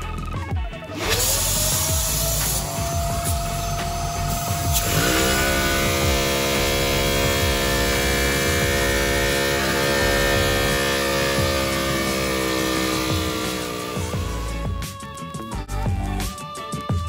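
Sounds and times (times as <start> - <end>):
pitched mechanical hum: 1.0 - 15.5.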